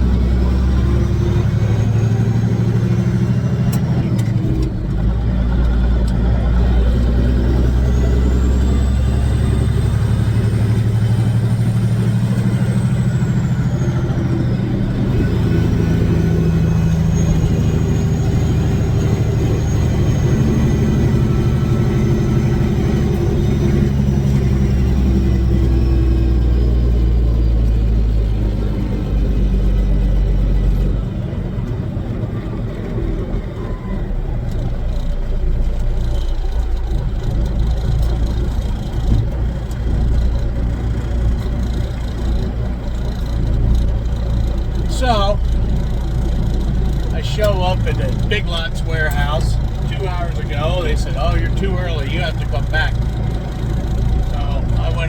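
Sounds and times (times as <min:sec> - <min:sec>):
diesel truck engine drone: 0:00.0 - 0:55.0
turbocharger whistling whine: 0:00.0 - 0:55.0.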